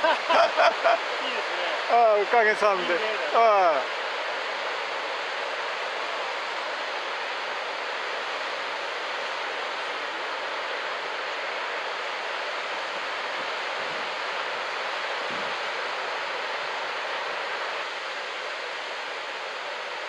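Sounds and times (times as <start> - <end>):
surf breaking on a beach: 0.0 - 20.0.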